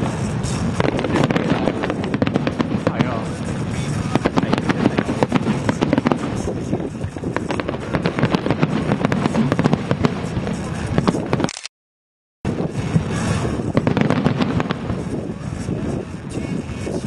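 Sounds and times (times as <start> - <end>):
fireworks cracking: 0.0 - 11.5, 12.5 - 17.0.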